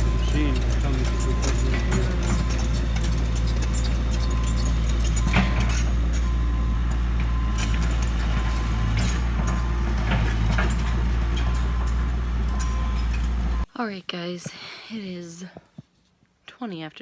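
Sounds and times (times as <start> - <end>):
excavator diesel engine running: 0.0 - 13.7
metallic clanks and squeaks: 0.0 - 13.7.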